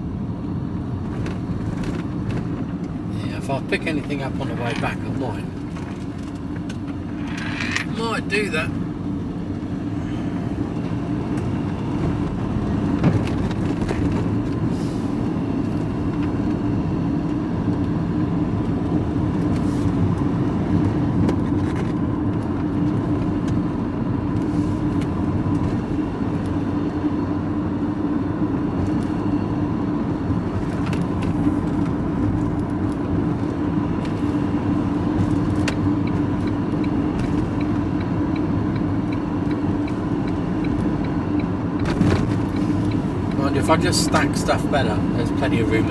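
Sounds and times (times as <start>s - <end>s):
vehicle engine and road drone: 0.0s - 45.9s.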